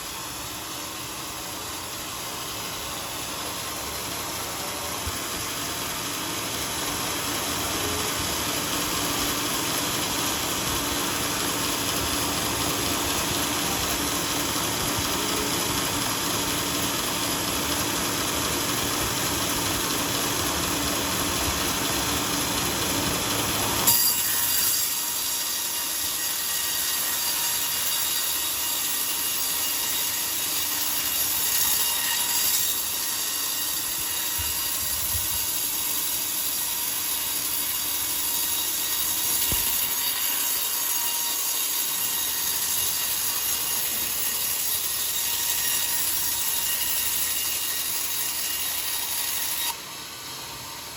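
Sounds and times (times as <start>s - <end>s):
bandsaw cutting timber: 0.0s - 50.9s.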